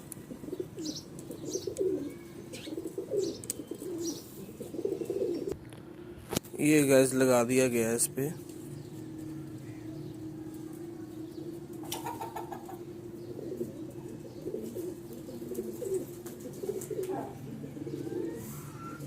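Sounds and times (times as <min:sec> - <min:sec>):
pigeons cooing: 0:00.0 - 0:19.0
steady low hum: 0:00.0 - 0:19.0.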